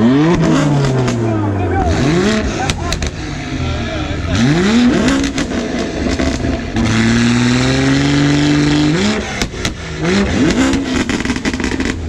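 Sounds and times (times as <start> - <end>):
exhaust pops: 0.0 - 3.5, 4.2 - 12.0
car engine revving: 0.0 - 12.0.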